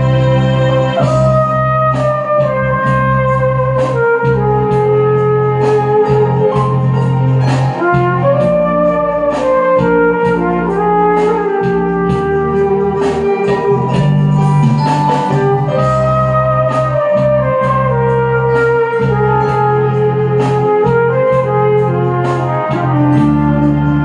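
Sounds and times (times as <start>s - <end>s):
backing track with bass and beat: 0.0s - 24.0s
brass horn melody: 0.0s - 24.0s.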